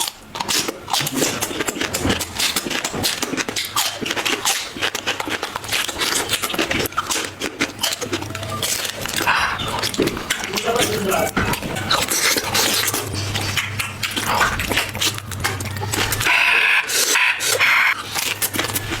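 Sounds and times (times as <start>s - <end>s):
person chewing and slurping noodles: 0.0s - 19.0s.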